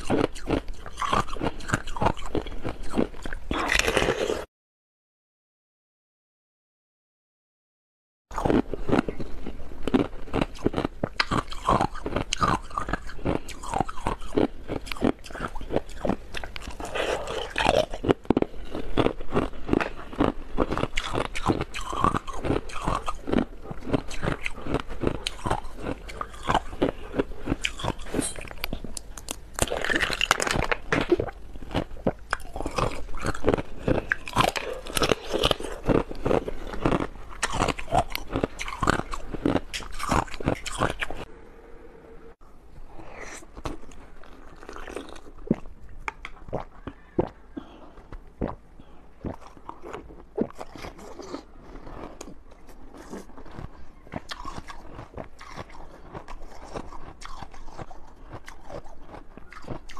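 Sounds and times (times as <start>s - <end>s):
ice crunching between teeth: 0.0s - 4.5s, 8.3s - 41.3s, 43.0s - 48.6s, 49.2s - 59.9s.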